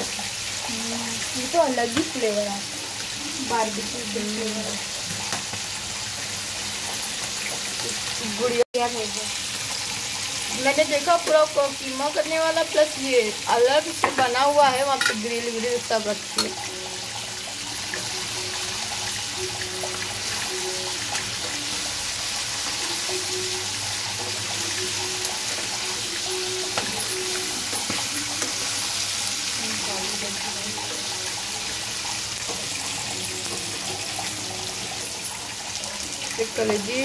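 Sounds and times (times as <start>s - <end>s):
chicken sizzling in oil: 0.0s - 37.0s.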